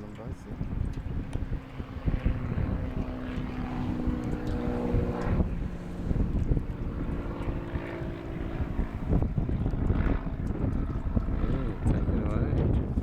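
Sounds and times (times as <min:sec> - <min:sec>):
distant motor droning: 0:00.0 - 0:13.0
wind rumbling on microphone: 0:00.0 - 0:13.0.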